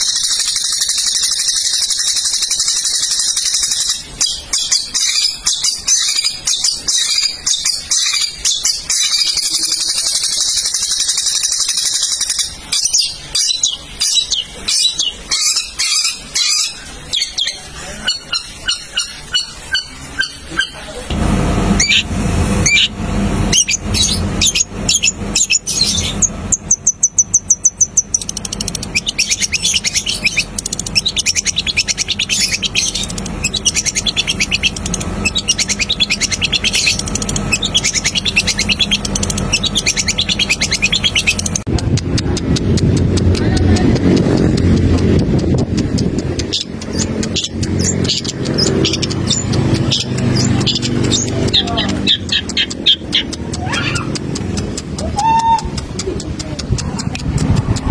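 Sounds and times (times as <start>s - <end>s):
bird singing chattering song: 0.0s - 21.1s, 21.8s - 57.9s
low background hum: 0.0s - 57.9s.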